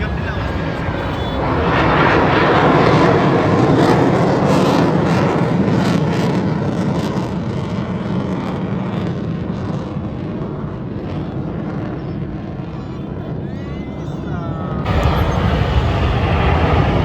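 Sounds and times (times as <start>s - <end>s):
military aircraft flying overhead: 0.0s - 17.0s.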